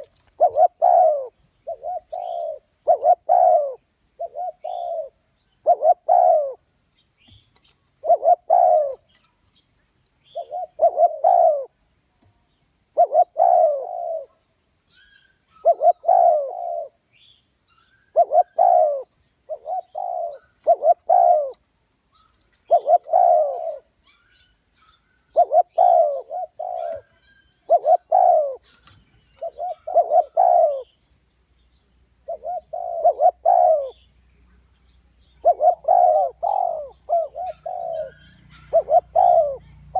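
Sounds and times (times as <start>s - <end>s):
dove cooing: 0.0s - 6.7s, 8.0s - 9.3s, 10.2s - 11.8s, 12.9s - 14.4s, 15.0s - 17.0s, 17.9s - 30.9s, 32.2s - 34.1s, 35.4s - 39.9s.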